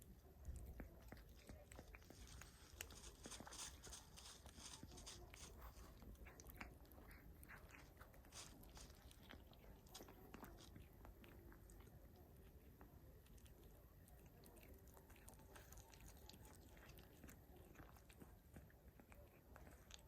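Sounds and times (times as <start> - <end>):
cat crunching food: 0.0 - 20.0.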